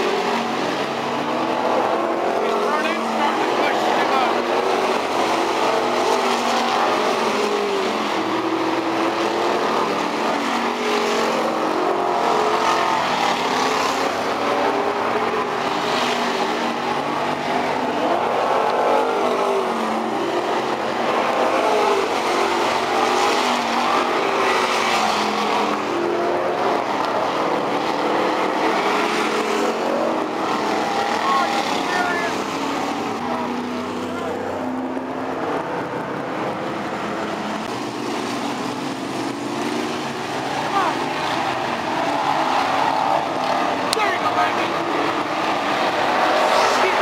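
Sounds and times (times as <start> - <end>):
race car engines: 0.0 - 47.0.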